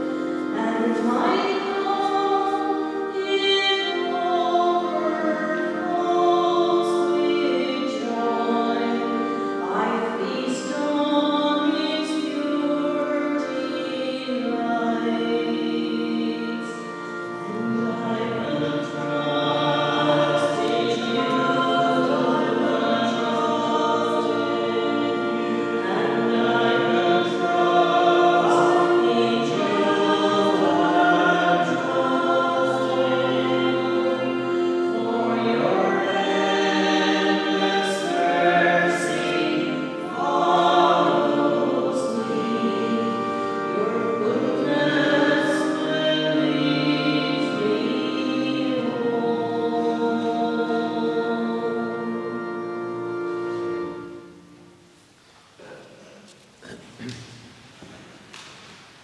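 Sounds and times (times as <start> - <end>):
sacred choral singing: 0.0 - 54.8.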